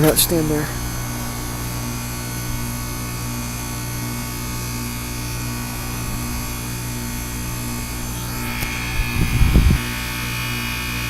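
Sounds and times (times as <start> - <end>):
heat pump humming and buzzing: 0.0 - 11.0.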